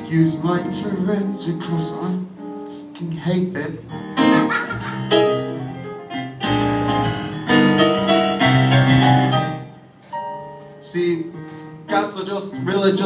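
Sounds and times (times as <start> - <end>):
piano chords on keyboard: 0.0 - 13.0.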